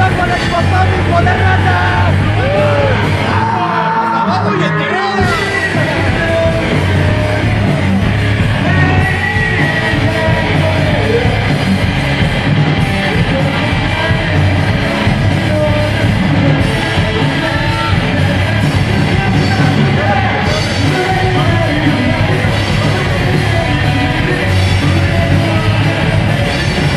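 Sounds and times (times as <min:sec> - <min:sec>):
man singing into microphone: 0:00.0 - 0:11.7, 0:12.9 - 0:26.9
electric guitar: 0:00.0 - 0:26.9.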